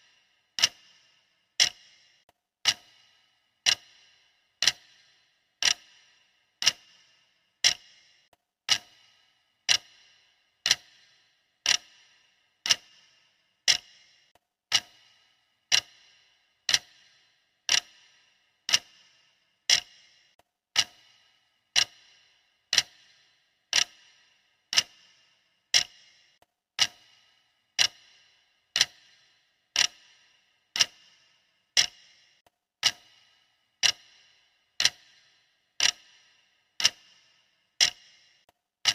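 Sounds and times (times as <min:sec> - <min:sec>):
clock ticking with metallic ring: 0:00.0 - 0:38.9.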